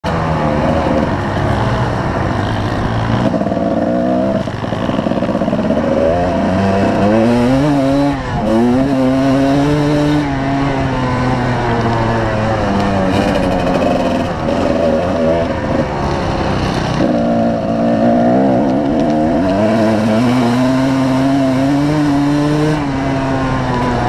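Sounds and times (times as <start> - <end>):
dirt bike engine revving: 0.1 - 24.0.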